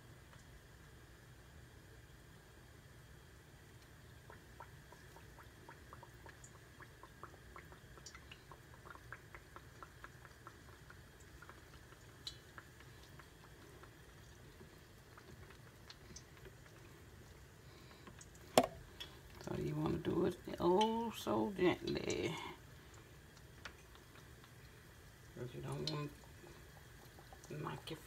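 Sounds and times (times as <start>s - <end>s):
oil crackling in a skillet: 0.0s - 28.0s.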